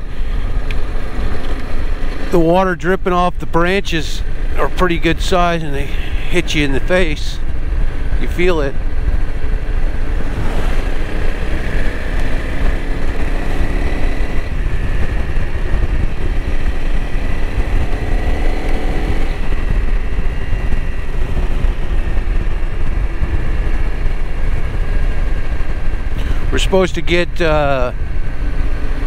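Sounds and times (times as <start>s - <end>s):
motorcycle engine running: 0.0s - 29.0s
wind rumble on microphone: 3.6s - 29.0s.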